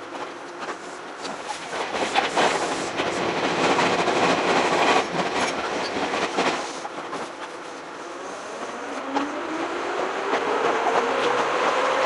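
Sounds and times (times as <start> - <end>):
electric train running noise: 0.0 - 12.0.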